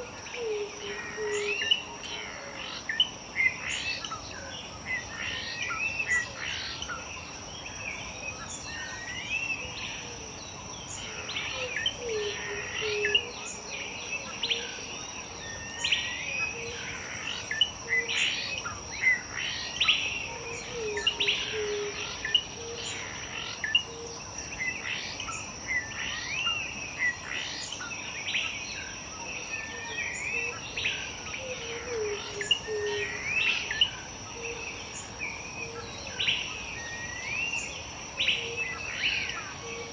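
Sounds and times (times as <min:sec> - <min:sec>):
high insect drone: 0:00.0 - 0:39.9
wild birds singing: 0:00.0 - 0:39.9.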